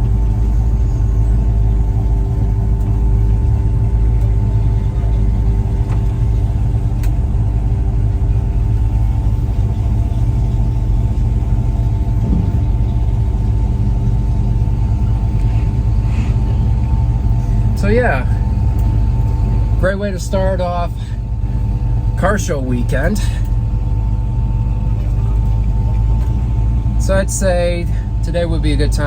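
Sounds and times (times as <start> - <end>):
car engine rumbling: 0.0 - 29.0.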